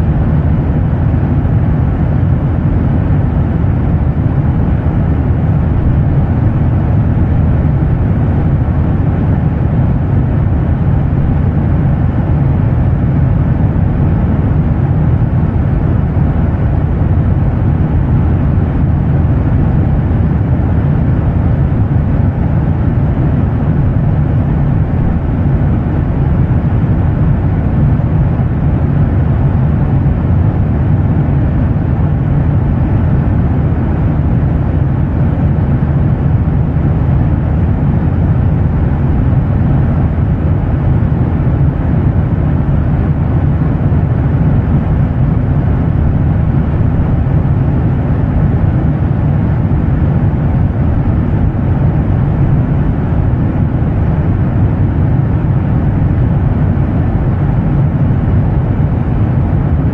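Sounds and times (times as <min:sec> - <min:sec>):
jet engines droning: 0:00.0 - 0:59.9.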